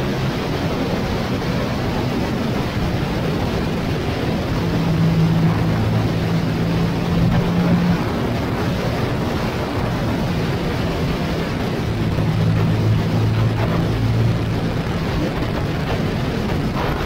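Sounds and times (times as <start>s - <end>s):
motorcycle engine hum: 0.0s - 17.0s
wind and road noise: 0.0s - 17.0s.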